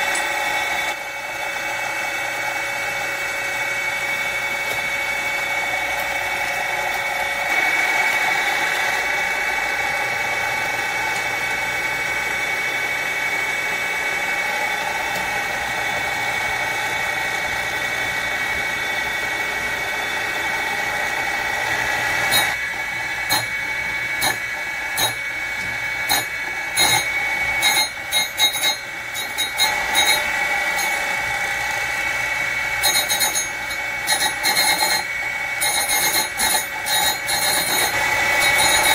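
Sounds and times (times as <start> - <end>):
grinding wheel whine: 0.0 - 38.9
phase converter whine: 0.0 - 38.9.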